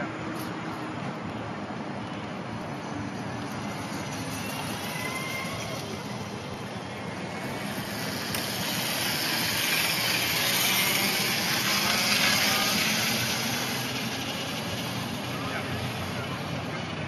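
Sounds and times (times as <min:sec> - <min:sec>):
tyres and wind hissing: 0:00.0 - 0:17.0.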